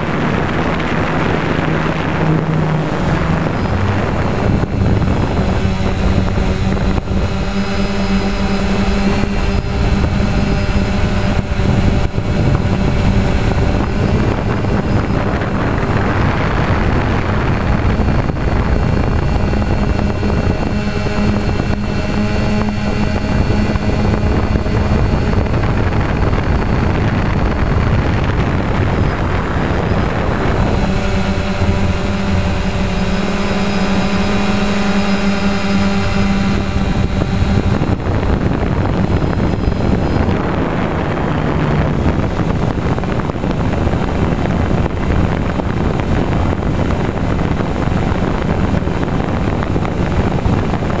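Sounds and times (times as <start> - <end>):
drone propellers buzzing: 0.0 - 51.0
wind on microphone: 0.0 - 51.0.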